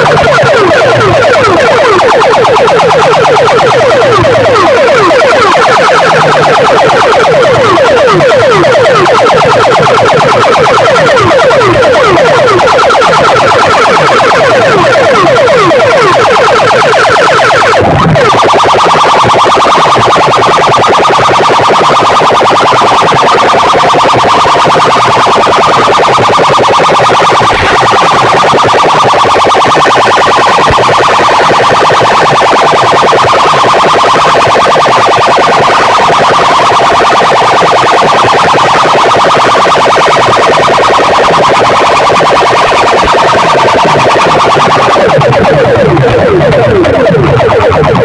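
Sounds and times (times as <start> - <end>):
distorted siren-like electronic warble: 0.0 - 48.0.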